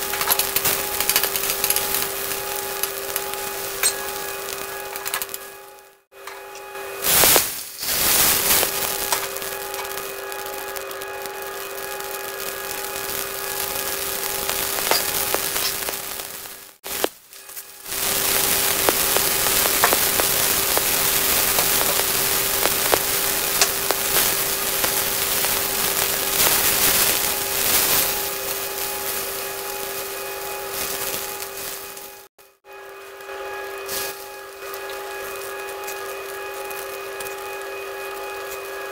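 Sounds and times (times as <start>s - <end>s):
constant hum: 0.0s - 38.9s
water boiling with crackling pops: 0.0s - 38.9s.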